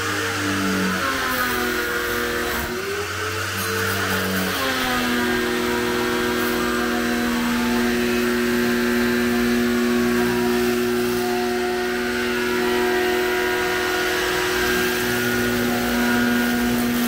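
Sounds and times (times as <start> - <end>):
pressure washer motor humming: 0.0 - 17.0.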